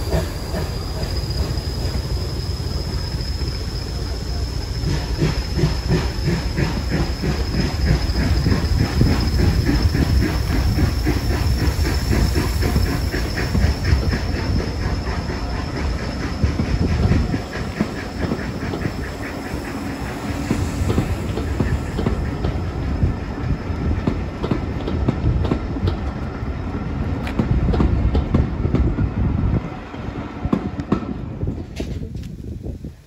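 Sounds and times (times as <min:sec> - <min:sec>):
train wheels clicking over rail joints: 0:00.0 - 0:32.6
low rumble of rolling coaches: 0:00.0 - 0:33.0.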